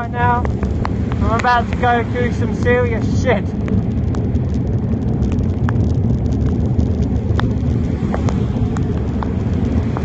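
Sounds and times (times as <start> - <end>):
raindrops ticking on microphone: 0.0 - 10.0
wind and road rumble: 0.0 - 10.0.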